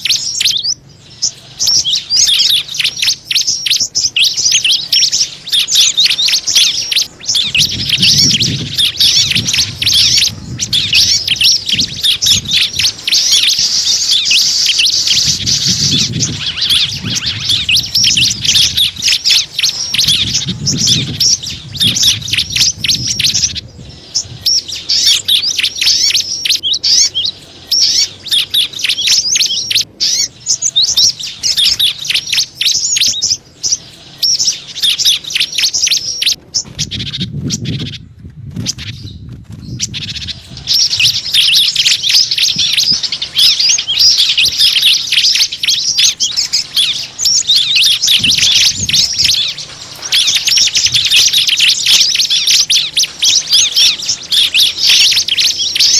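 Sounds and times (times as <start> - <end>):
small songbirds chirping: 0.0 - 55.9.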